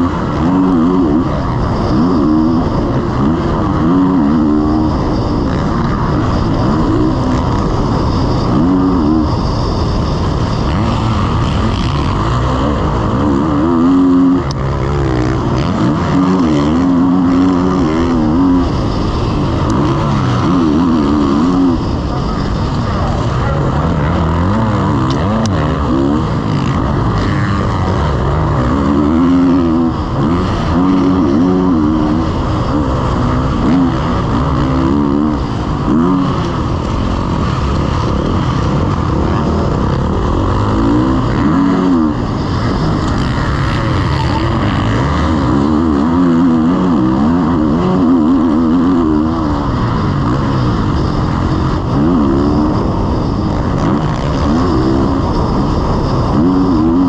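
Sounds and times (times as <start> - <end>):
motocross engine revving: 0.0 - 57.0
wind noise on microphone: 0.0 - 57.0.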